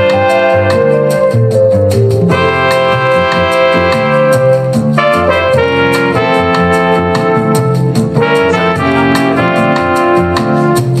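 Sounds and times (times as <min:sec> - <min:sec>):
music with steady beat on speaker: 0:00.0 - 0:11.0.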